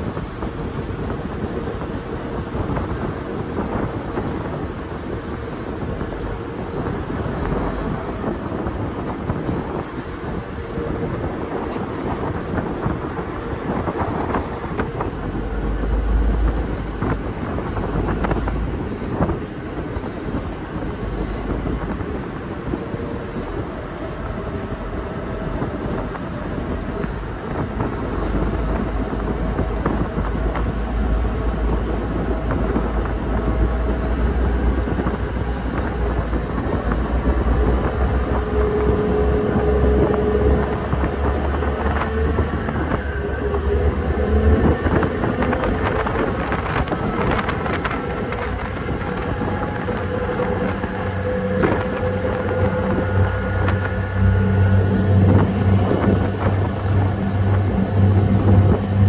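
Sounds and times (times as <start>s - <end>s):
ferry engines droning: 0.0s - 59.0s
low engine hum: 0.0s - 59.0s
water rushing past hull: 0.0s - 59.0s
wind on microphone: 0.0s - 59.0s.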